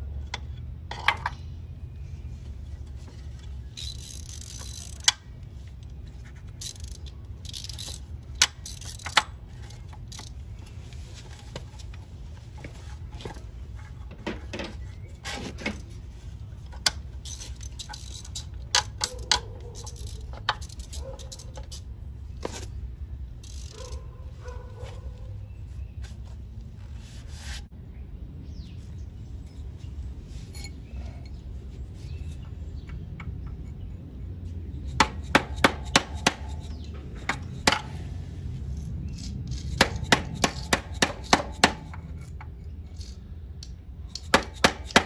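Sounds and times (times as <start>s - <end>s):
metal clinks and scrapes: 2.6s - 26.2s, 29.2s - 32.6s, 34.5s - 45.0s.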